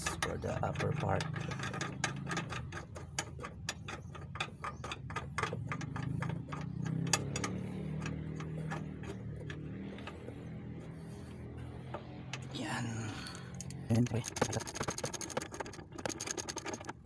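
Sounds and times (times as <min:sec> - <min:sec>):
bolts clicking as threaded: 0:00.0 - 0:12.5, 0:13.4 - 0:17.0
low hum: 0:01.3 - 0:15.8.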